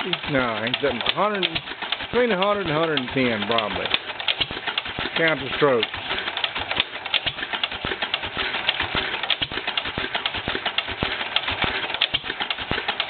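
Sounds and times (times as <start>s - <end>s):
oil field engine idling: 0.0s - 13.0s
valve gear clicks and knocks: 0.0s - 13.0s.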